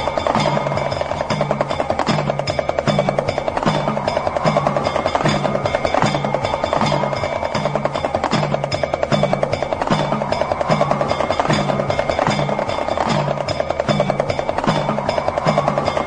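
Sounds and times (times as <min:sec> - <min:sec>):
small hand drum rattling: 0:00.0 - 0:16.0.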